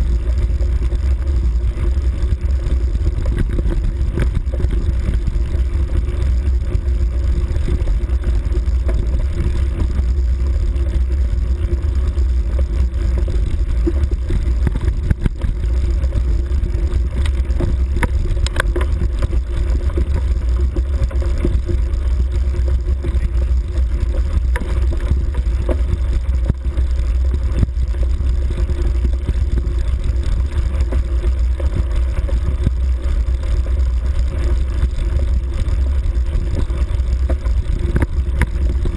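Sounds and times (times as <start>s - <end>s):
vehicle rumbling on dirt track: 0.0s - 38.9s.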